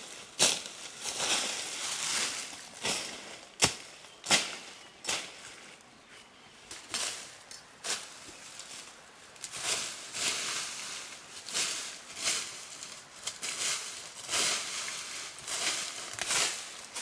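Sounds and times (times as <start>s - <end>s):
leaves rustling: 0.0s - 17.0s.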